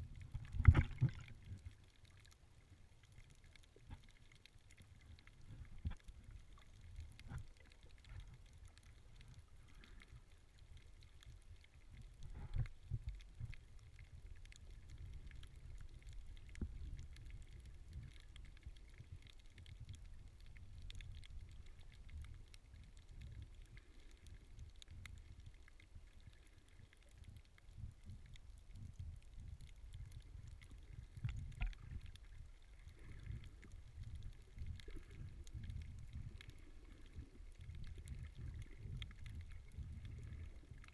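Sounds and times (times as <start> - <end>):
faint clicks: 0.0 - 40.9
muffled underwater rumble: 0.0 - 40.9.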